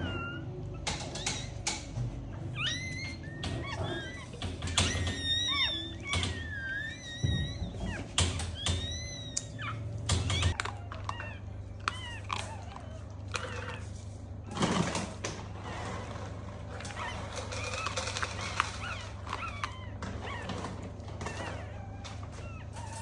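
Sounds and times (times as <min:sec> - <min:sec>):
newborn puppy crying: 0:00.0 - 0:23.0.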